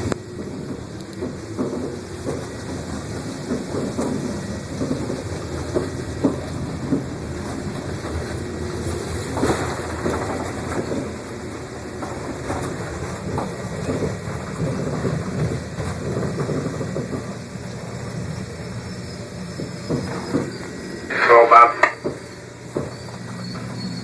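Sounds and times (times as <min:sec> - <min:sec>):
train wheels clacking and knocking: 0:00.0 - 0:20.8, 0:21.8 - 0:24.0
train rumbling on track: 0:00.0 - 0:24.0.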